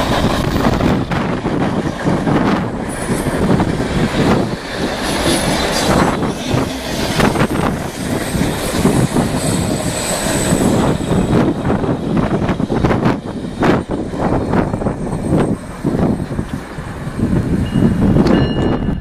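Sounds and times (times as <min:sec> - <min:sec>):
train clicks and knocks: 0:00.0 - 0:19.0
train wheels rumbling on rail: 0:00.0 - 0:19.0.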